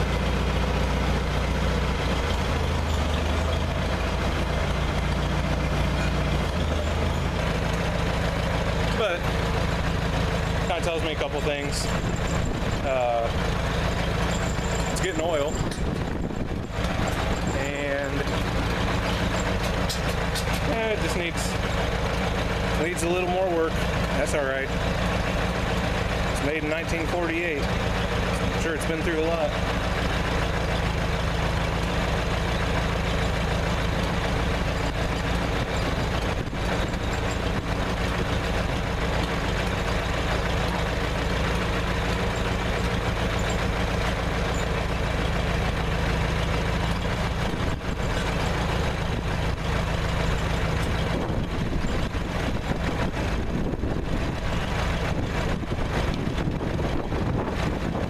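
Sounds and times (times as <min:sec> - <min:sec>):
tractor engine idling: 0:00.0 - 0:58.0.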